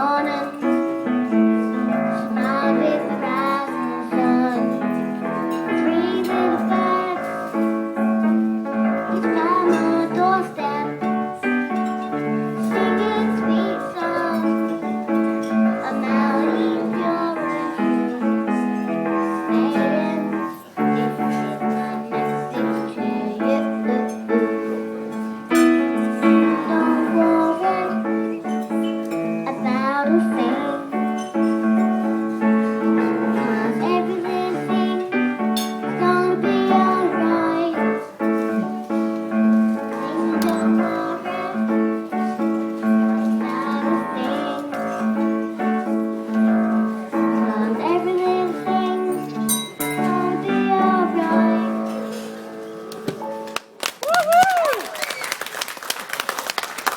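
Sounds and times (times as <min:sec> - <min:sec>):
young woman singing: 0:00.0 - 0:52.5
piano accompaniment: 0:00.0 - 0:56.9.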